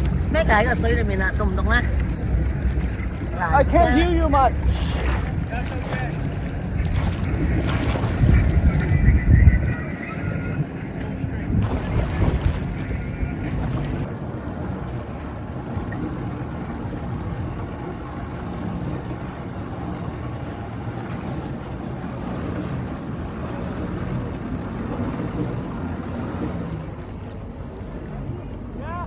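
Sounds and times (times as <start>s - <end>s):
jet ski engine running: 0.0s - 29.0s
water churning and splashing: 0.0s - 29.0s
wind buffeting microphone: 0.0s - 29.0s.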